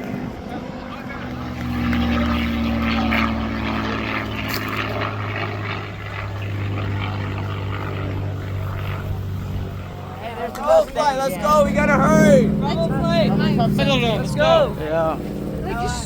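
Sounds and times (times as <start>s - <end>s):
propeller plane droning overhead: 0.0s - 16.0s.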